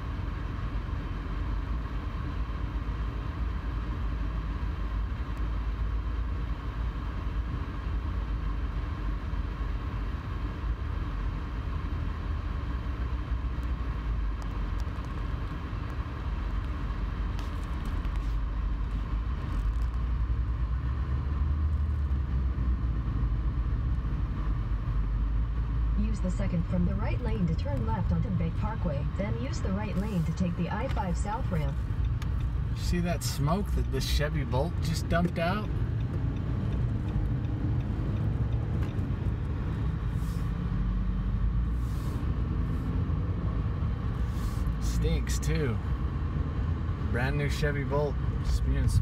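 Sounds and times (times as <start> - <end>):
car interior rumble: 0.0 - 49.0.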